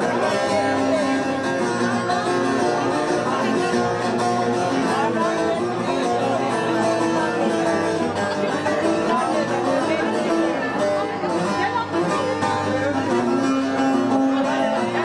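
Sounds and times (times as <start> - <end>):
long-necked lute strummed: 0.0 - 15.0.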